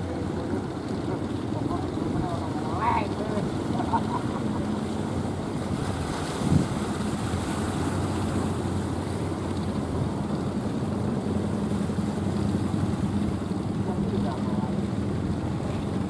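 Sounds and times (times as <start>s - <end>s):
boat engines droning: 0.0s - 16.0s
rough surf and churning water: 0.0s - 16.0s
wind buffeting microphone: 0.0s - 16.0s.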